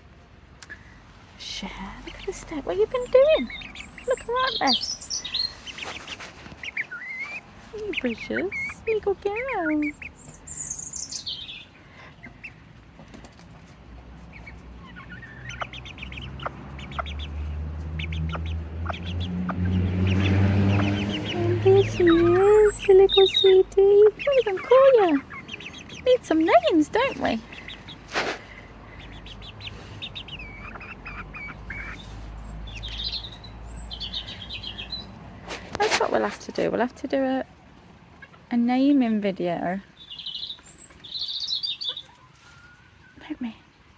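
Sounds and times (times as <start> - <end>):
chickens chirping: 0.0 - 43.9
chickens clucking: 0.6 - 43.8.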